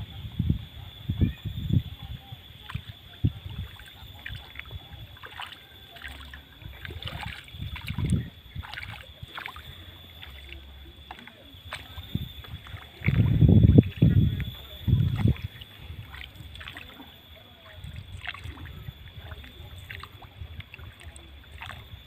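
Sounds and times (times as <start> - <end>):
paddle splashing through water: 2.6 - 22.0
water dripping off paddle: 2.6 - 22.0.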